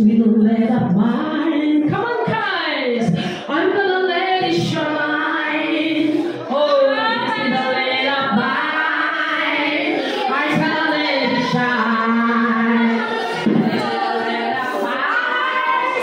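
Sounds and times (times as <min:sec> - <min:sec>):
voices singing in worship: 0:00.0 - 0:16.0.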